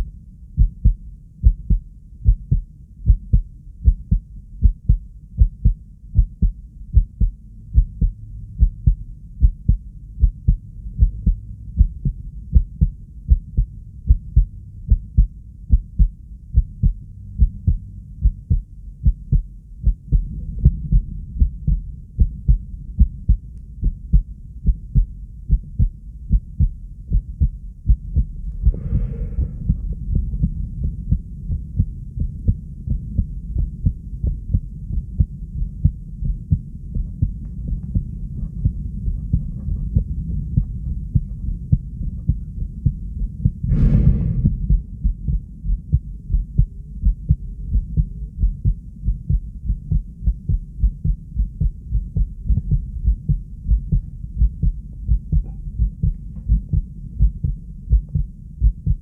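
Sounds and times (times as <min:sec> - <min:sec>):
fast heartbeat thumps: 0:00.0 - 0:59.0.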